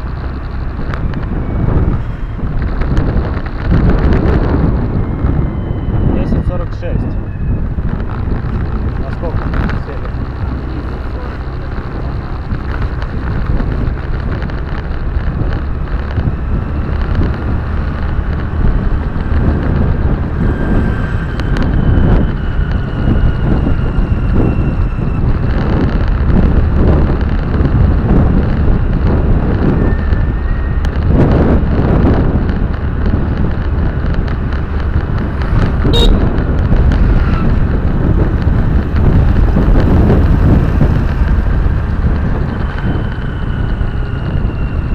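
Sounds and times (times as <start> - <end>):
road and engine rumble: 0.0 - 44.9
wind noise on microphone: 0.0 - 44.9.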